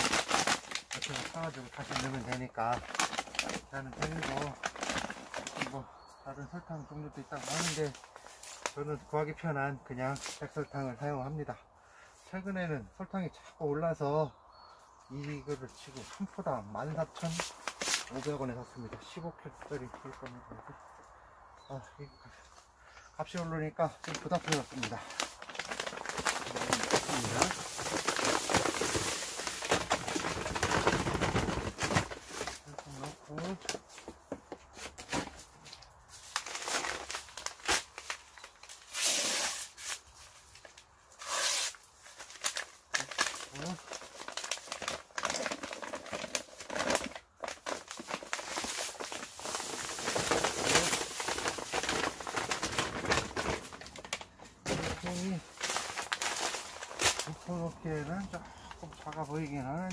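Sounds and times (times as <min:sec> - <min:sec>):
paper bag crinkling: 0:00.0 - 0:06.1, 0:07.2 - 0:08.9, 0:15.7 - 0:20.4, 0:23.2 - 0:59.9.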